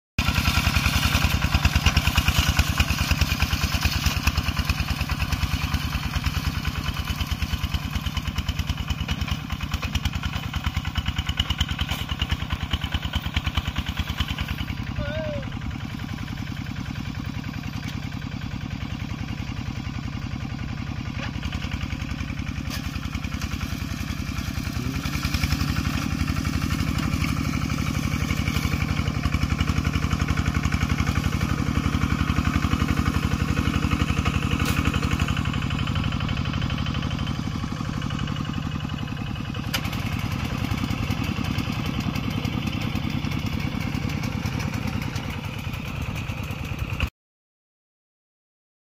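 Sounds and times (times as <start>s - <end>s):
walking tractor engine running: 0.2s - 47.1s.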